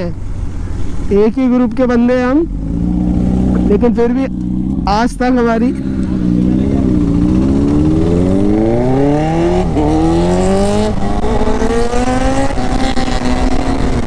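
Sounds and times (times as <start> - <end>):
motorcycle engine accelerating: 1.5 - 14.0.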